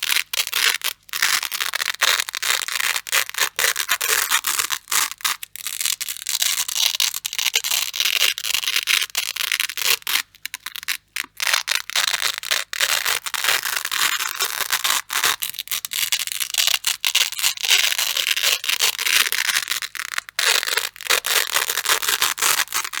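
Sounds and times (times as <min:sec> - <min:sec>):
velcro tearing apart: 0:00.0 - 0:23.0.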